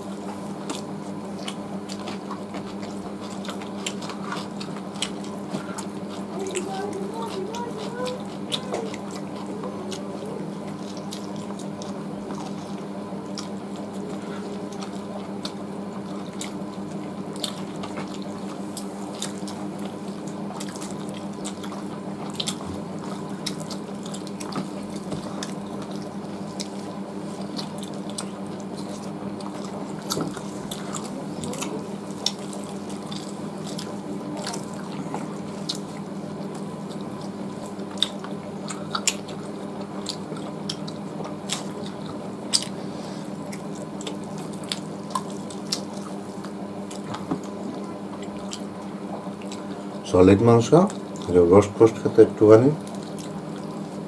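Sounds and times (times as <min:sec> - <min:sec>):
steady low hum: 0:00.0 - 0:54.0
wet chewing and lip-smacking: 0:00.1 - 0:50.0, 0:50.8 - 0:51.4, 0:52.8 - 0:54.0.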